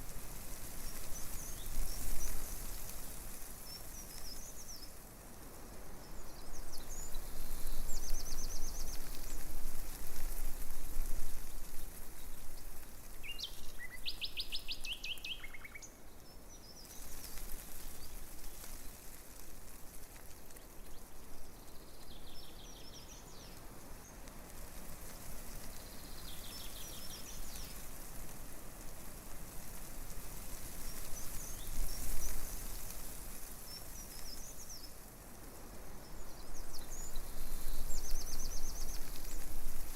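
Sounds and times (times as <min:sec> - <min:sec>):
breeze rustling leaves: 0:00.0 - 0:39.9
small birds chirping: 0:00.4 - 0:28.1, 0:29.5 - 0:35.2, 0:35.8 - 0:39.9.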